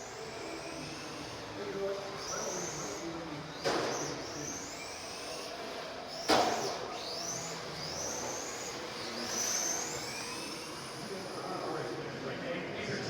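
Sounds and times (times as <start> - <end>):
electric race car motors whining: 0.0 - 13.0.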